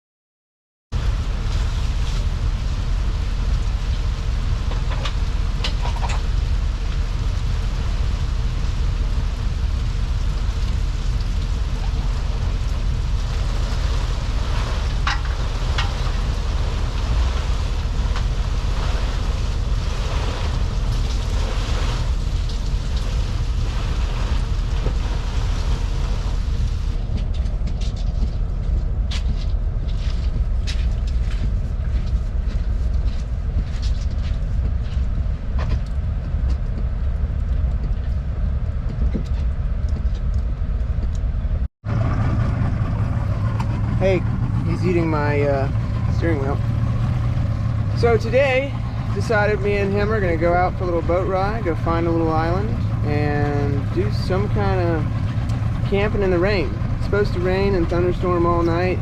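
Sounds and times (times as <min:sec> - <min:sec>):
wind and water noise: 0:00.9 - 0:59.0
motorboat engine running: 0:01.0 - 0:59.0.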